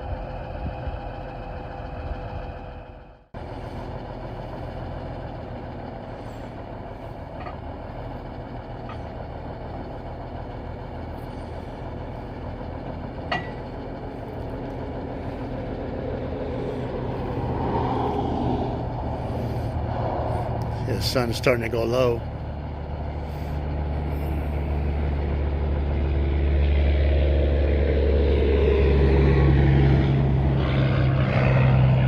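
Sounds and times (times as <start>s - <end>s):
heavy truck engine idling: 0.0s - 32.0s.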